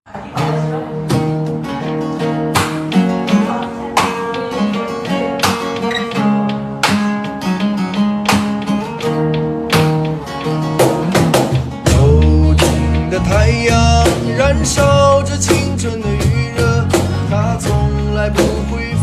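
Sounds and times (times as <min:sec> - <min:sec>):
acoustic guitar strumming: 0:00.1 - 0:19.0.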